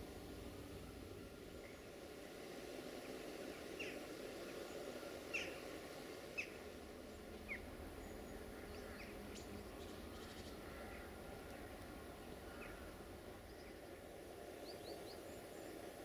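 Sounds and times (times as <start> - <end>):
faint background noise: 0.0 - 16.0.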